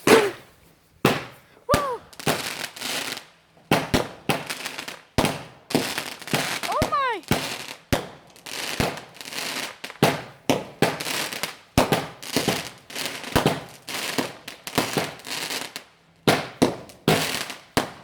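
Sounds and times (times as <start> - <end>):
fireworks bangs: 0.0 - 15.2
fireworks crackling fizz: 0.0 - 15.8.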